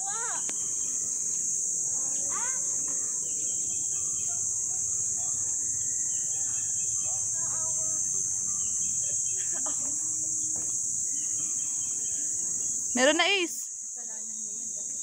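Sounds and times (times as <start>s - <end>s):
faint distant voices: 0.0s - 15.0s
insects buzzing: 0.0s - 15.0s.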